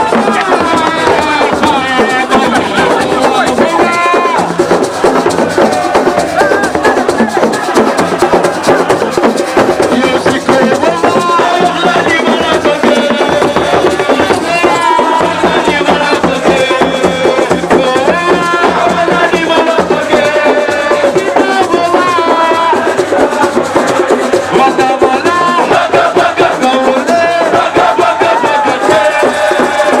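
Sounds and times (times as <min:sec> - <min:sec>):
loud drumming: 0:00.0 - 0:30.0
voices singing: 0:00.0 - 0:30.0.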